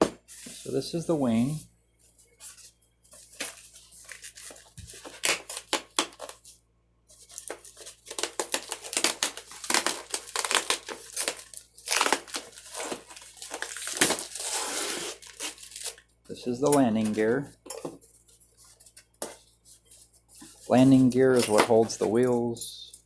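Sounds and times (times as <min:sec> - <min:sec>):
packaging crinkling and rustling: 0:02.4 - 0:22.4.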